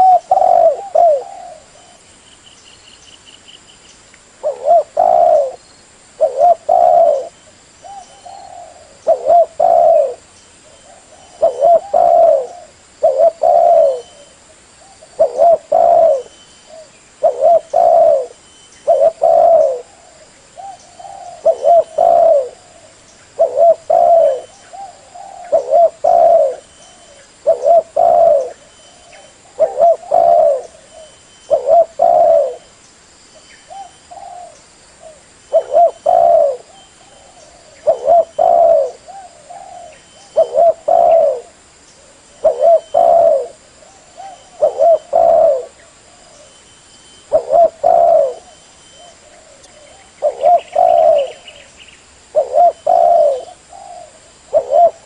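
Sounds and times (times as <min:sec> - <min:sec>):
dove cooing: 0:00.0 - 0:02.1, 0:04.4 - 0:05.6, 0:06.2 - 0:32.7, 0:33.7 - 0:51.7, 0:52.3 - 0:55.0.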